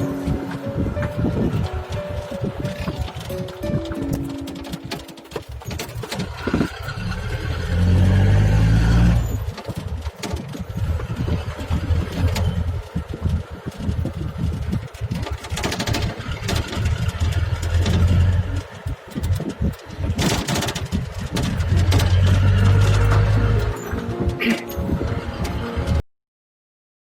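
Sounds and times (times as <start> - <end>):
vehicle engine running: 0.0 - 24.3.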